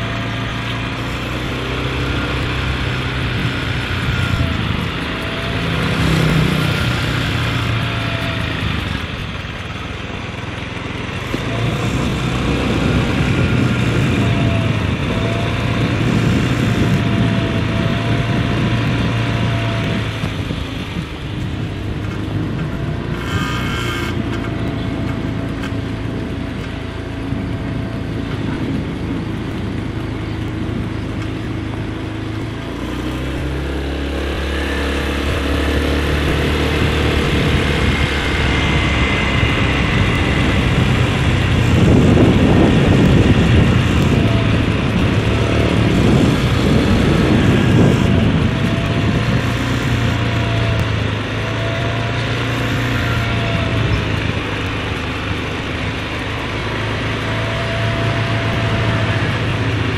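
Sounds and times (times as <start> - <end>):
small motorbike engine running: 0.0 - 59.9
wind rushing over microphone: 0.0 - 59.9.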